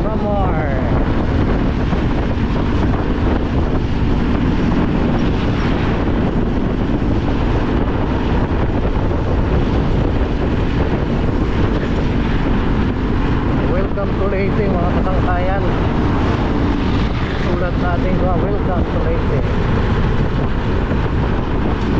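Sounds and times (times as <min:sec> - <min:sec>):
motorcycle engine running: 0:00.0 - 0:21.9
wind on microphone: 0:00.0 - 0:21.9.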